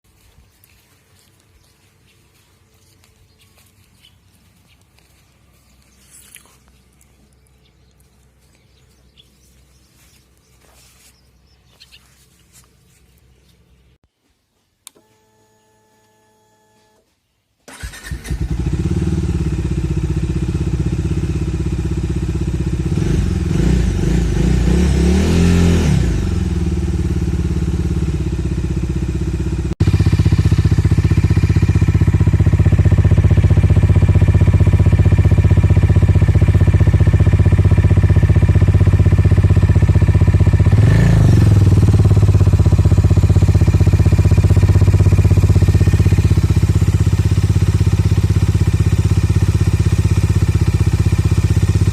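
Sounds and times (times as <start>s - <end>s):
motorcycle engine idling and revving: 0.2s - 13.0s, 17.7s - 51.9s.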